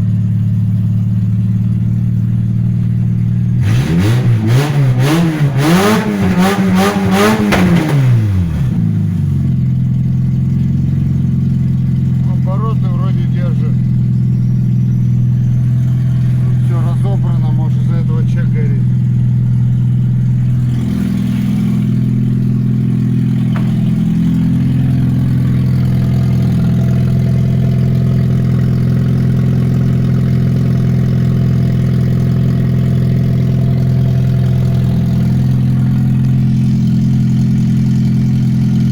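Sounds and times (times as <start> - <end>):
car engine running without muffler: 0.0 - 38.9.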